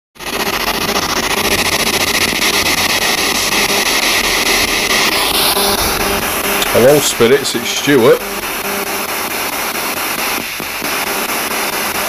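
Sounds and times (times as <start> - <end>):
pulsing radio static: 0.2 - 12.0.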